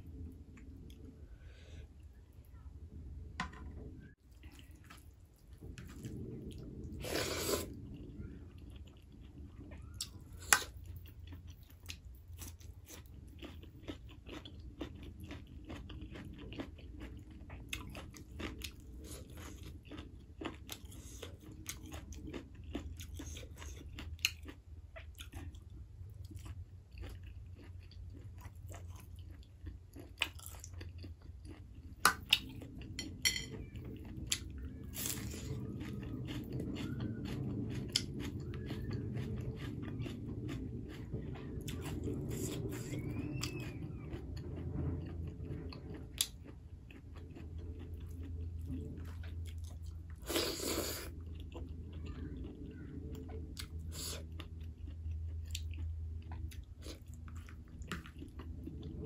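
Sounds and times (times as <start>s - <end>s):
low background hum: 0.0s - 59.0s
chewing with wet mouth smacks: 4.2s - 59.0s.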